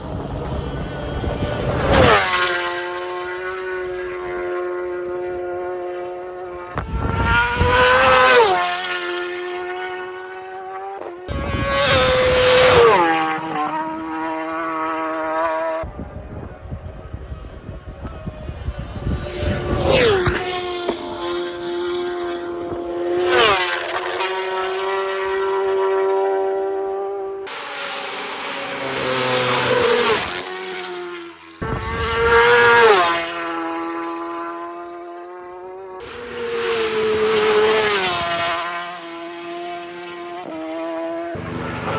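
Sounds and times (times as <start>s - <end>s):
racing motorbikes passing: 0.0s - 41.9s.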